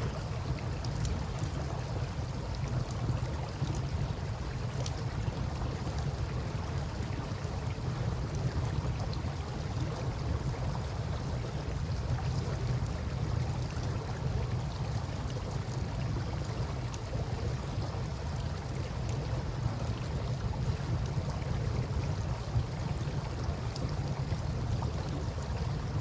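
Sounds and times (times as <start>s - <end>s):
faint campfire crackles: 0.0s - 26.0s
moving water: 0.0s - 26.0s
wind: 0.0s - 26.0s.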